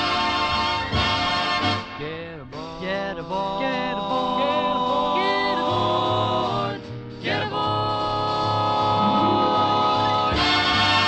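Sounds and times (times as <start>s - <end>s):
old-time song with sliding melody: 0.0s - 2.8s, 3.9s - 11.0s.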